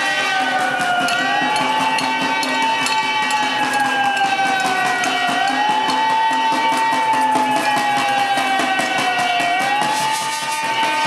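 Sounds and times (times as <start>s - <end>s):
clicking percussion: 0.0s - 11.0s
wailing siren-like synth tone: 0.0s - 11.0s.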